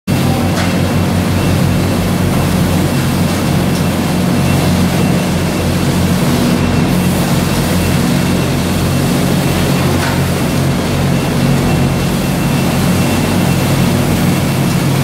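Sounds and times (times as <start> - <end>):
conveyor and baling machine din: 0.1 - 15.0
low machine hum: 0.1 - 15.0.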